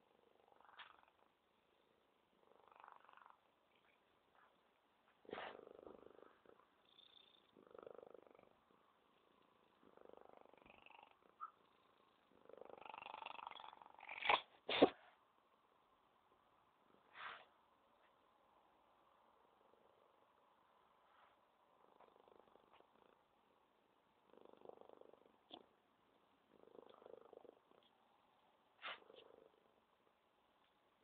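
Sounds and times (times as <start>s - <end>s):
cat purring: 0.0s - 14.6s, 19.3s - 31.0s.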